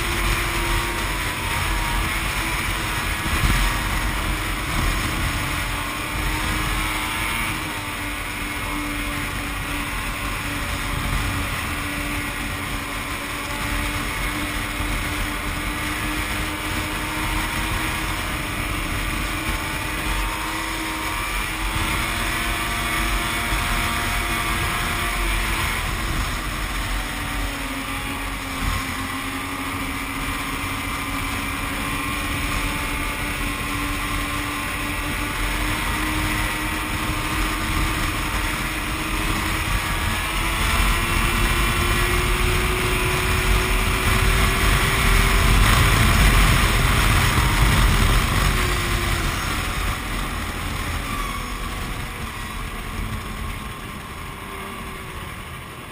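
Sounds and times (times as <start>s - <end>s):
snowmobile engine running: 0.0s - 55.9s
wind on microphone: 0.0s - 55.9s.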